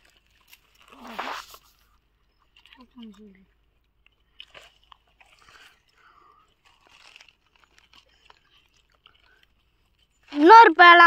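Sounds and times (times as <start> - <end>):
chewing and crunching fruit: 0.0 - 10.8.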